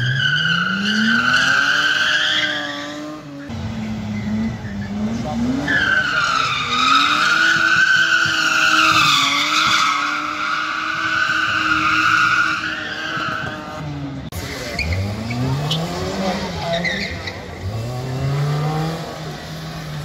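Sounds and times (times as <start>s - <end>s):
tyres squealing: 0.0s - 3.5s, 4.1s - 13.8s, 14.6s - 17.9s
car engine at high revs: 0.0s - 20.0s
car engine revving: 0.0s - 20.0s.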